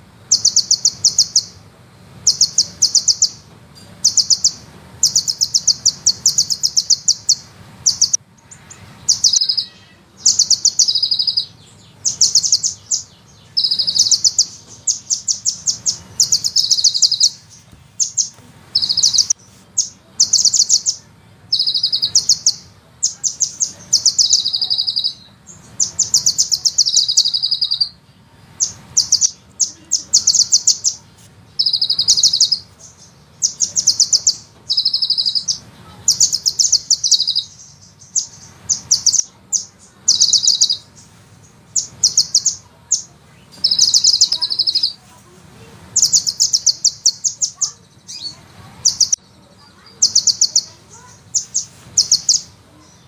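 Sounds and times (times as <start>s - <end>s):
bird singing rattling trills: 0.0s - 1.6s, 2.2s - 45.2s, 45.9s - 53.0s.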